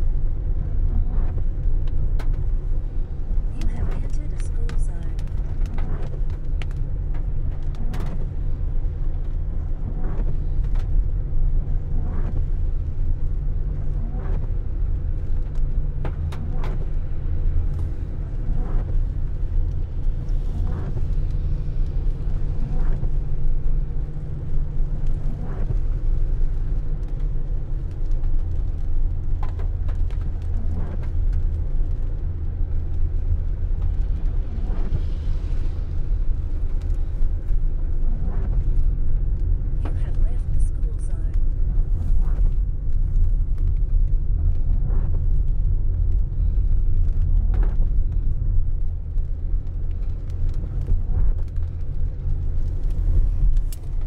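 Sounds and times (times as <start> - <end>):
car engine and tyres on wet road: 0.0 - 54.0.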